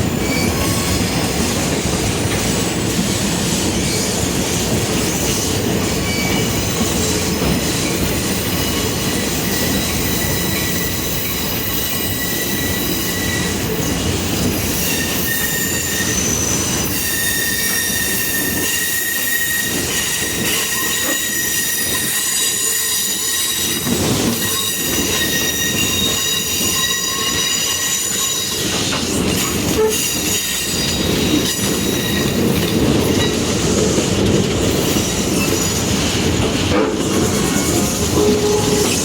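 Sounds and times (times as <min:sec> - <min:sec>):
train cars rumbling on track: 0:00.0 - 0:39.0
train wheels squealing on rail: 0:00.0 - 0:39.0.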